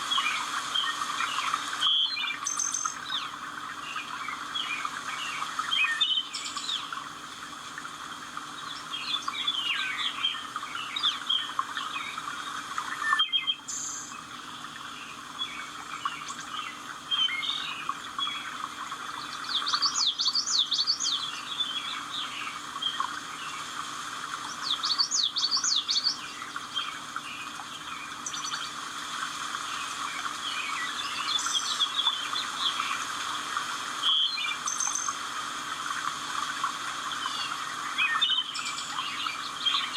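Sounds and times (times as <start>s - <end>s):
birds chirping and trilling: 0.0s - 7.2s, 8.5s - 39.9s.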